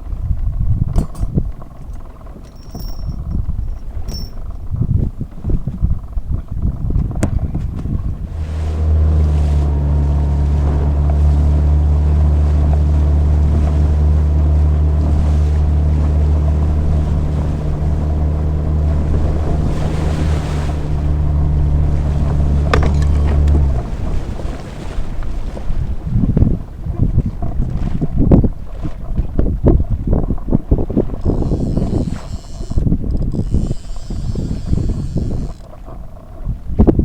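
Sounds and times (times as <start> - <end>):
outboard motor running: 0.0 - 37.0
wind buffeting microphone: 0.0 - 37.0.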